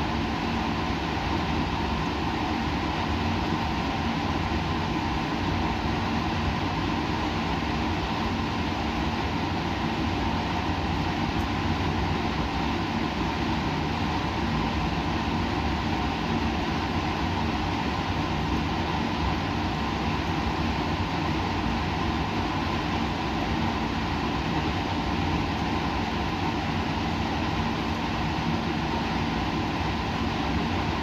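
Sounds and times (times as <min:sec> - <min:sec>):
steady hiss and rumble: 0:00.0 - 0:31.0.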